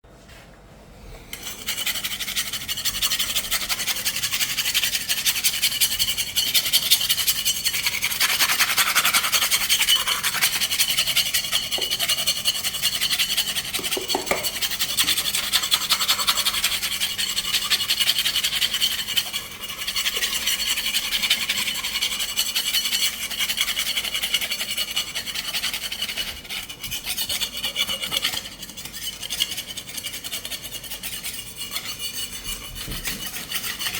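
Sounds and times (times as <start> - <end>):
scraper scraping plaster wall: 1.3 - 33.9.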